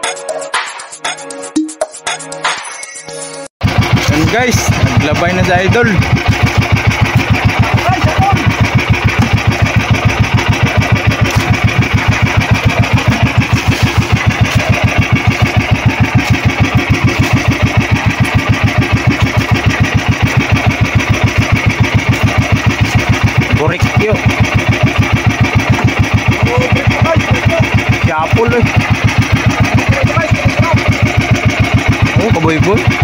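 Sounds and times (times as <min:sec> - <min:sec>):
boat engine idling: 0:03.6 - 0:33.0.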